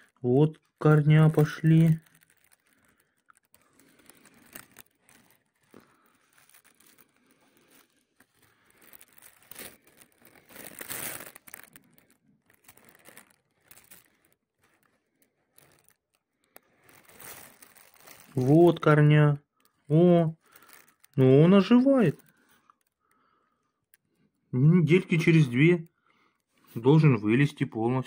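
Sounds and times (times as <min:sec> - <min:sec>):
soil crumbling: 0:00.0 - 0:25.9
plastic sheet rustling: 0:00.0 - 0:27.8.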